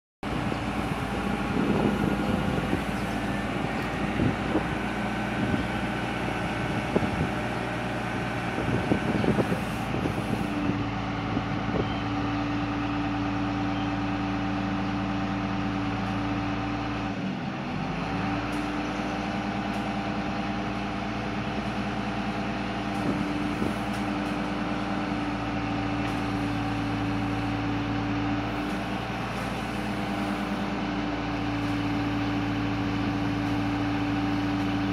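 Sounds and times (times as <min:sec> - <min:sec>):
crane hydraulics humming: 0:00.2 - 0:34.9
truck engine running: 0:00.2 - 0:34.9.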